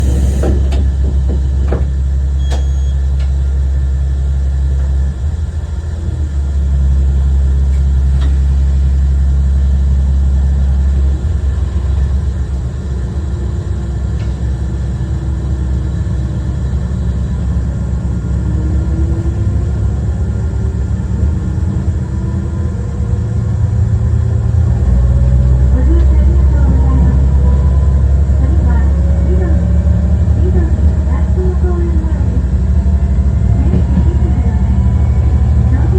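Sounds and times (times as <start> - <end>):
railcar engine drone: 0.0 - 35.9.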